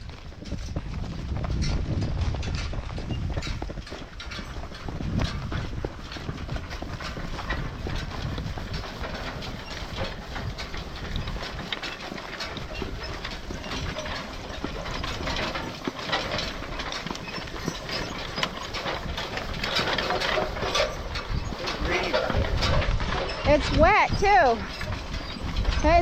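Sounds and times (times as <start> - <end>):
farm implement rattling: 0.0 - 26.0
hooves on ground: 0.0 - 26.0.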